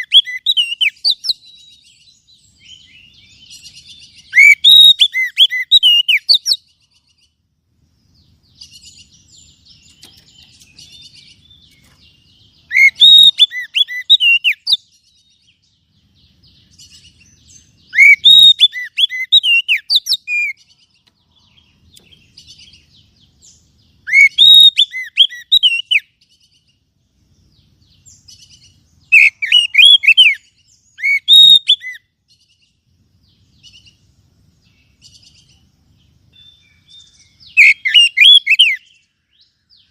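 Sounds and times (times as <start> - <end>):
bird singing whistled notes: 0.0 - 7.4, 8.0 - 39.9
soft bird twittering: 0.0 - 39.9.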